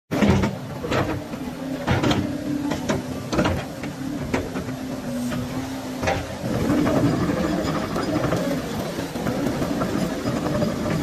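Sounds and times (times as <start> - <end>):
excavator engine running: 0.1 - 11.0
hydraulic steady tone: 0.1 - 11.0.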